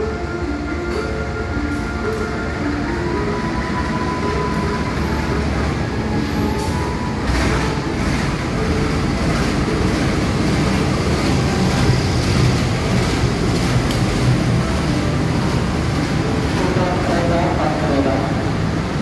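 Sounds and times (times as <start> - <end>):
diesel locomotive rumbling: 0.0 - 19.0.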